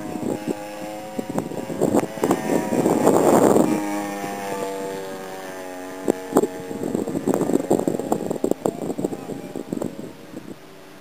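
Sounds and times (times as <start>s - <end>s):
model plane engine drone: 0.0s - 11.0s
wind on microphone: 0.0s - 11.0s.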